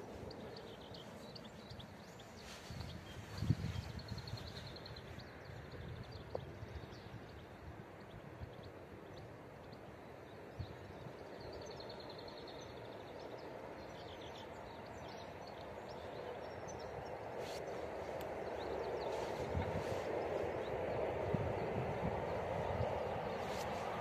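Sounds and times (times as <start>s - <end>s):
approaching train rumble: 0.0s - 24.0s
faint birds chirping: 0.0s - 24.0s.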